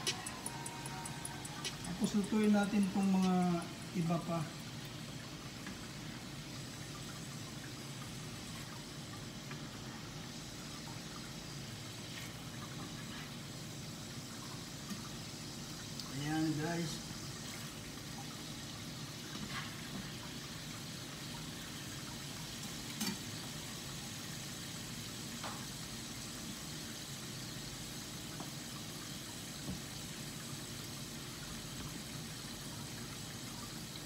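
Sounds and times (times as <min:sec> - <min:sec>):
burger patties sizzling in pan: 0:00.0 - 0:34.0.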